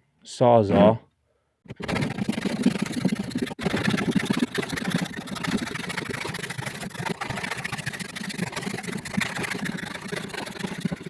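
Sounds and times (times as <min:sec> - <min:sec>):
handsaw cutting wood: 0:01.7 - 0:11.0.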